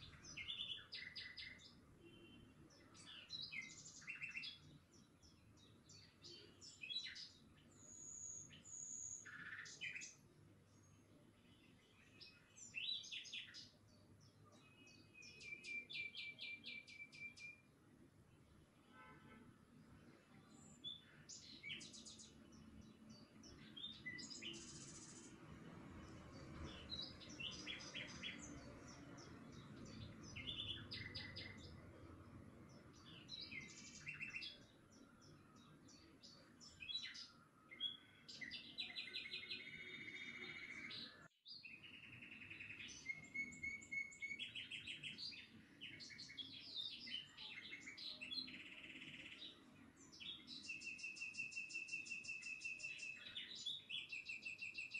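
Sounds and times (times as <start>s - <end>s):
small birds chirping: 0.0s - 18.9s, 19.7s - 54.9s.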